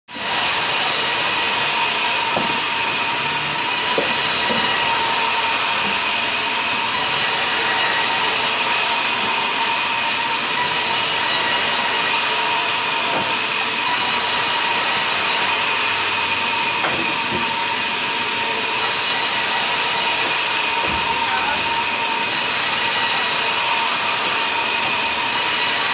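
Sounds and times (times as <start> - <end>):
band saw cutting log: 0.1 - 25.9.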